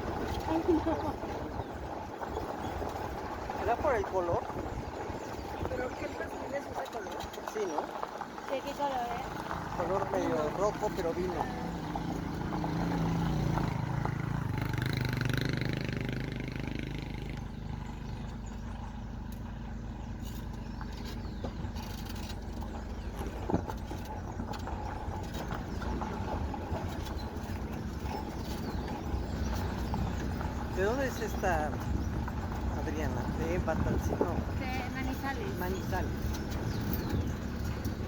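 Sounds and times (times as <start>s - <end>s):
road noise: 0.0s - 38.0s
vehicle engine hum: 0.0s - 38.0s.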